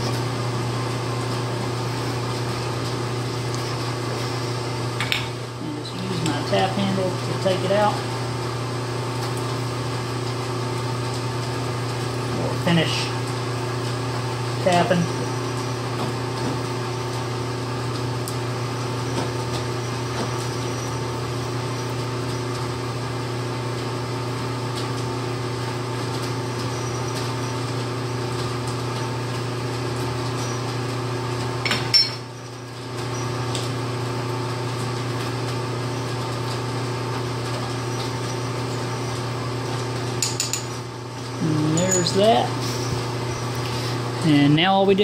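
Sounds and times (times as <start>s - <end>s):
shop machine hum: 0.0s - 45.0s.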